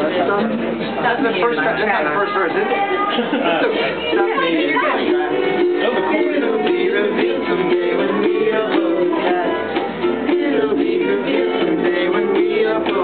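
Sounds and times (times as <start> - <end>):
ukulele strumming: 2.4 - 13.0.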